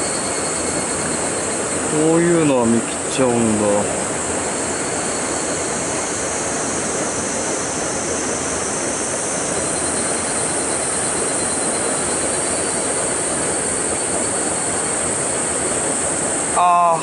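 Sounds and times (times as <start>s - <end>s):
stream water flowing into pool: 0.0s - 17.0s.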